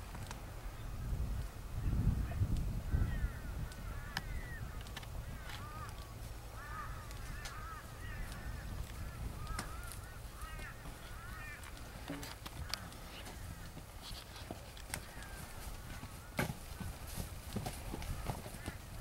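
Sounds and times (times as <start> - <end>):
low wind rumble: 0.0 - 19.0
birds calling: 1.8 - 19.0.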